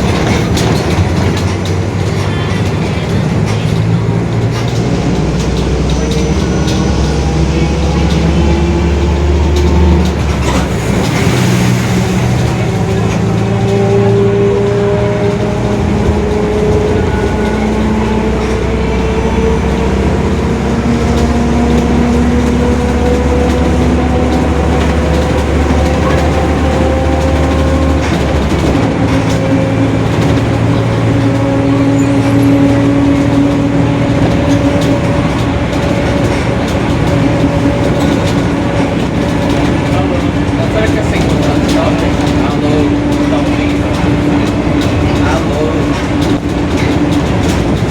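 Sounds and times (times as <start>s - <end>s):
bus differential whine: 0.0s - 47.9s
low engine drone: 0.0s - 47.9s.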